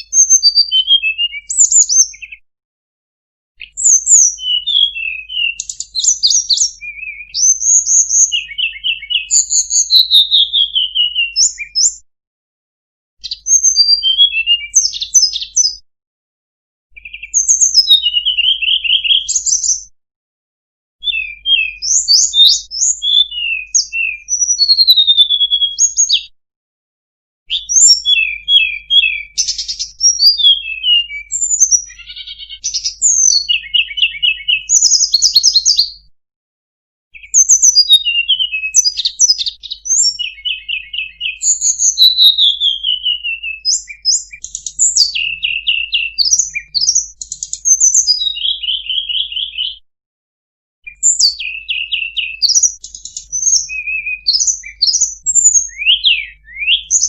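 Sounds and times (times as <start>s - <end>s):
bird chirps trills and whistles: 0.0s - 2.4s, 3.6s - 12.0s, 13.2s - 15.8s, 16.9s - 19.9s, 21.0s - 26.3s, 27.5s - 36.1s, 37.2s - 49.8s, 50.8s - 57.0s.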